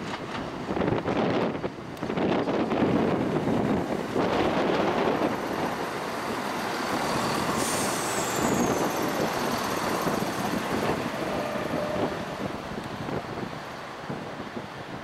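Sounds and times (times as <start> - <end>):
diesel train passing: 0.0 - 15.0.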